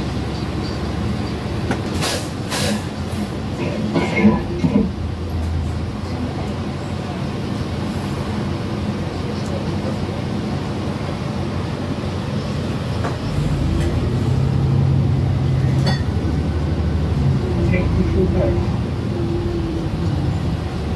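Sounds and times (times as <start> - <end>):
bus engine drone: 0.0 - 20.9
road noise: 0.0 - 20.9.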